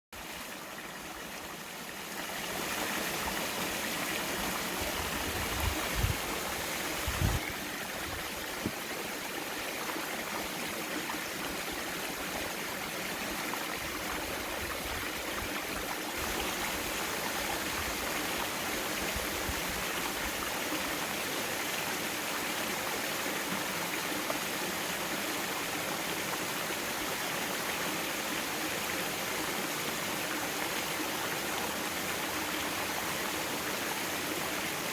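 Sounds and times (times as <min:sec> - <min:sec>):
stream flowing over rocks: 0:00.2 - 0:34.9.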